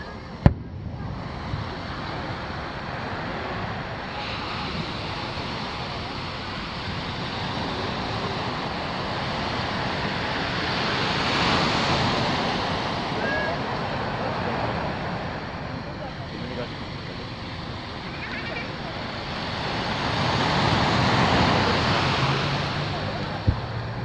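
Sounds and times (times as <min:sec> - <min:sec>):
surf washing onto beach: 0:00.0 - 0:24.0.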